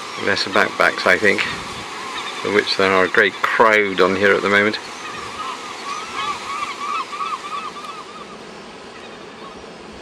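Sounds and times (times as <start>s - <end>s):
gulls yelping calls: 0.0s - 10.0s
steady hiss: 0.0s - 10.0s.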